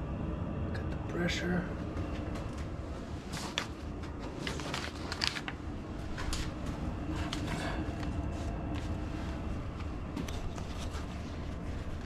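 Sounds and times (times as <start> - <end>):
boiler low hum: 0.0 - 12.0.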